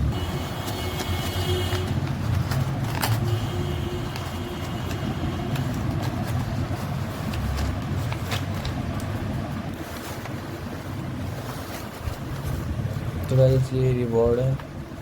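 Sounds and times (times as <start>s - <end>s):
low traffic rumble: 0.0s - 15.0s
packaging clicks and crinkles: 0.2s - 13.4s.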